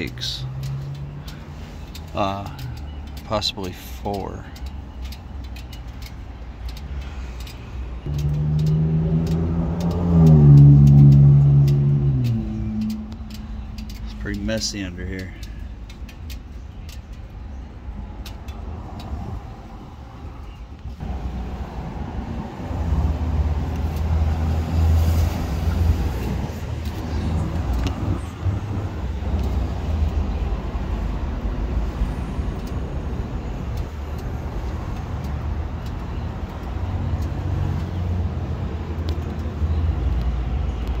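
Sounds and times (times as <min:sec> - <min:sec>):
motor vehicle rumbling: 0:00.0 - 0:41.0.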